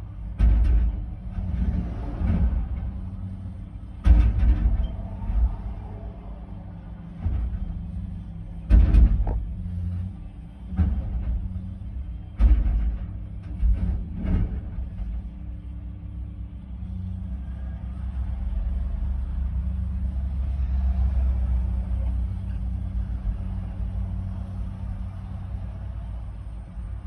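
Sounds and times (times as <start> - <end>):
large engine rumbling: 0.0 - 27.0.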